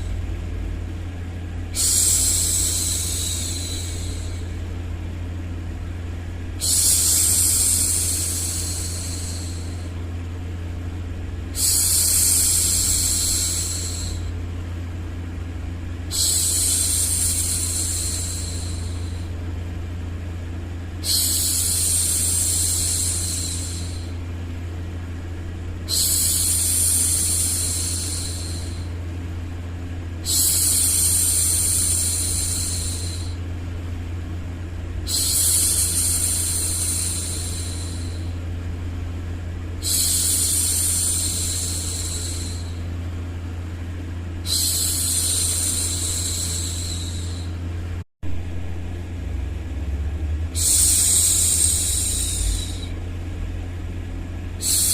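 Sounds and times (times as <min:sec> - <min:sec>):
steady low noise: 0:00.0 - 0:54.9.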